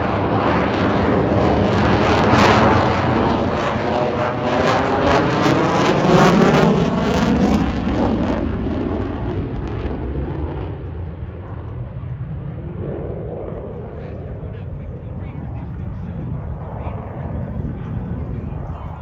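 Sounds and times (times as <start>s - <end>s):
airplane flying past: 0.0s - 19.0s.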